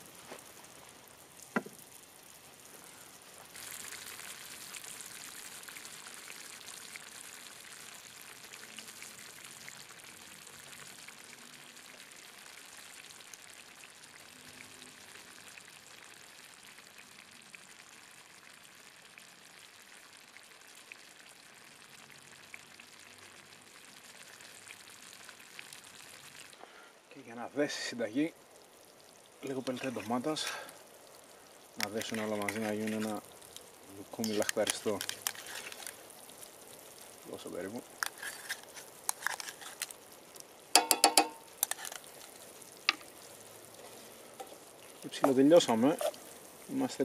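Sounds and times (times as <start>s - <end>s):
stew sizzling in a pan: 0.0s - 47.0s.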